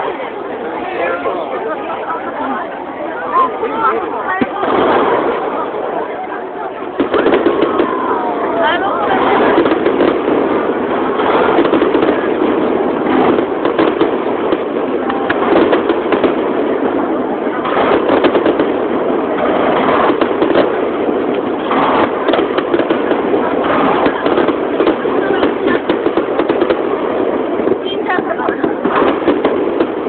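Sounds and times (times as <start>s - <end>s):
firework bangs: 0.0s - 30.0s.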